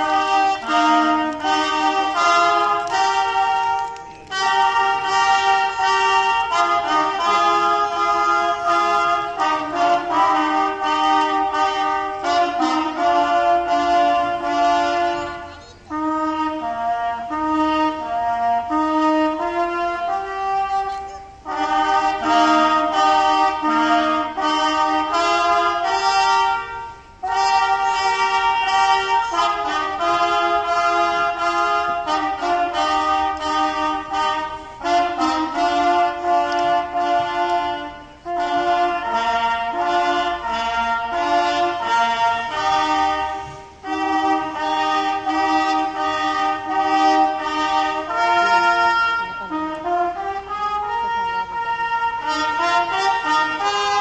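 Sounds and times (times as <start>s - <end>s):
trumpets playing in harmony: 0.0s - 54.0s.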